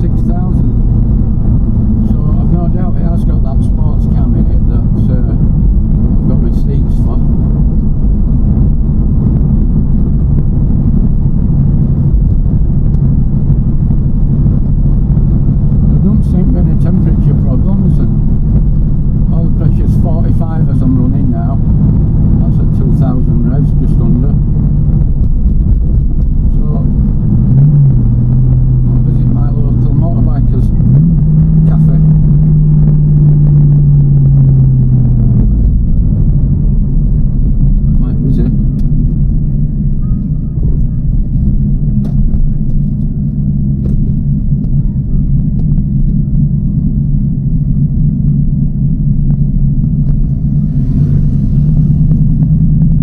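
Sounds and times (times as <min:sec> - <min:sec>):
car engine deep rumble: 0:00.0 - 0:53.0.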